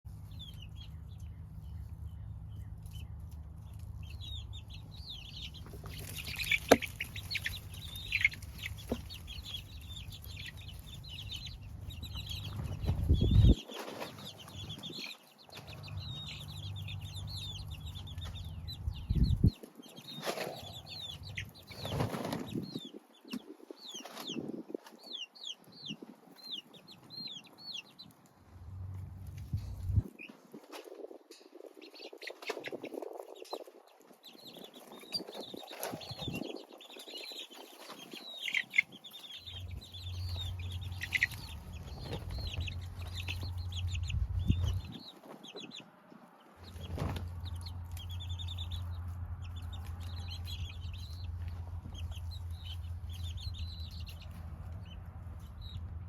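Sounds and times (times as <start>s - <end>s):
baby chicks peeping: 0.1s - 56.0s.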